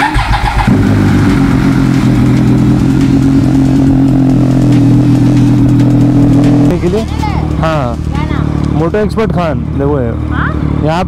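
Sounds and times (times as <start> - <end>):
motorcycle engine starting and idling: 0.0 - 11.0.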